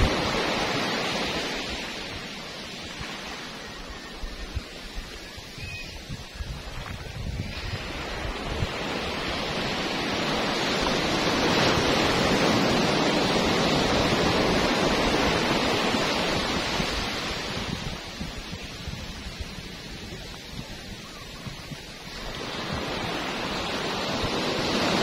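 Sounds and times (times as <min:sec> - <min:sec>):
small sea waves breaking: 0:00.0 - 0:25.0.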